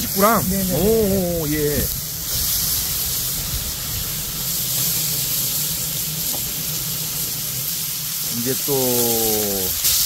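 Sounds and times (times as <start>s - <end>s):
steady low hum: 0.0s - 8.7s
meat sizzling on fire: 0.0s - 10.0s.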